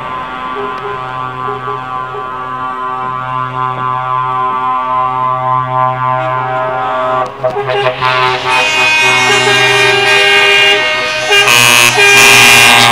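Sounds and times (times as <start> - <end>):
truck air horns blasting: 0.0 - 12.9
truck engine driving past: 0.0 - 12.9.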